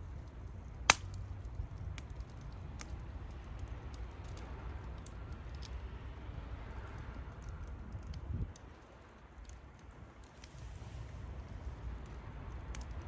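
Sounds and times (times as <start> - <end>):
campfire crackling: 0.0 - 13.0
low steady rumble: 0.0 - 13.0.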